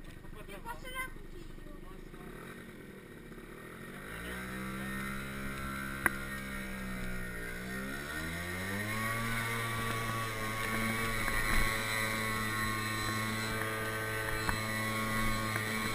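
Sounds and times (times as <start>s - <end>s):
scooter engine pulling away: 1.2s - 15.9s.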